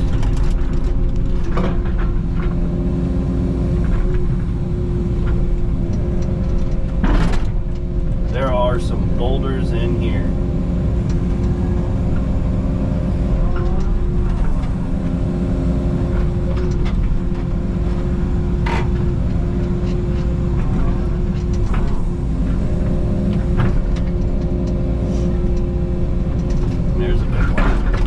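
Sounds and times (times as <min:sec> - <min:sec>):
hydraulic whine: 0:00.0 - 0:28.0
mini excavator engine running: 0:00.0 - 0:28.0.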